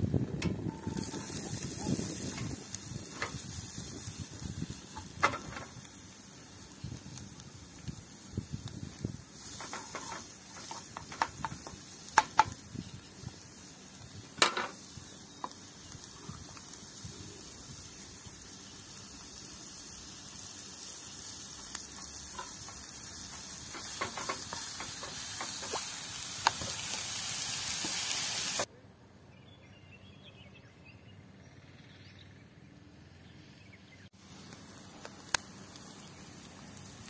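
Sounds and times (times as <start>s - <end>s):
vegetables sizzling in a frying pan: 0.0s - 28.7s, 34.2s - 37.0s.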